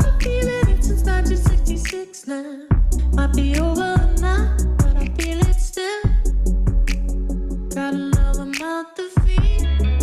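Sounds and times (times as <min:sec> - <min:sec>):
pop song with singing voice: 0:00.0 - 0:10.0.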